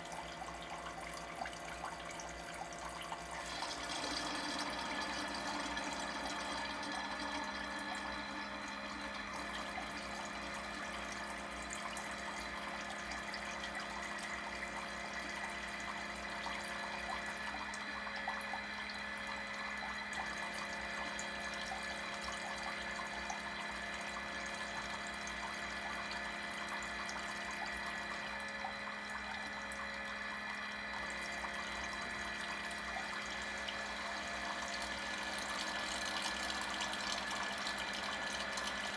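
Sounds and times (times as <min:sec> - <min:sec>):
pump humming: 0:00.0 - 0:38.9
water running through machine: 0:00.0 - 0:38.9.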